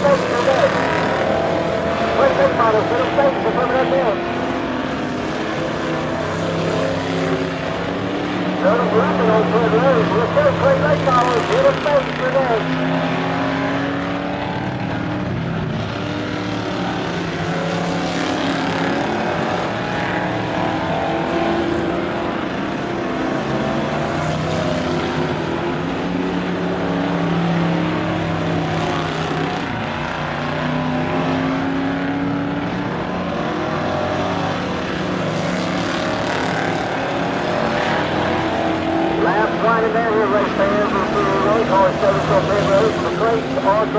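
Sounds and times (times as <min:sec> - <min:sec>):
race car engines: 0:00.0 - 0:43.9.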